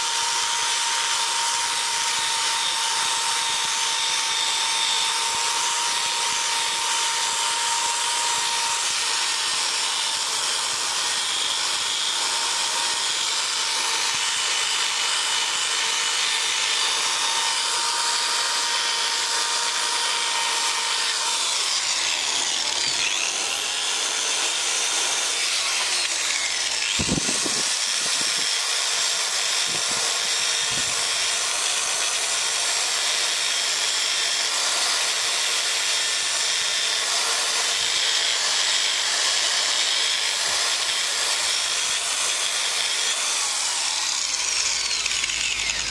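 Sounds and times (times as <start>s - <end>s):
drill wire brush scraping metal: 0.0s - 45.9s.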